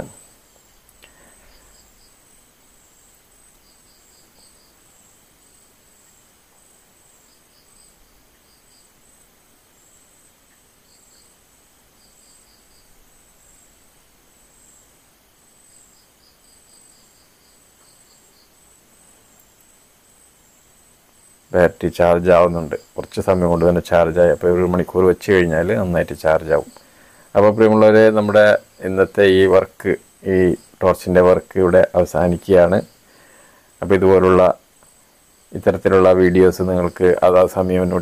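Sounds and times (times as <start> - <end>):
insects trilling: 0.0 - 38.0
quick insect chirps: 0.0 - 38.0.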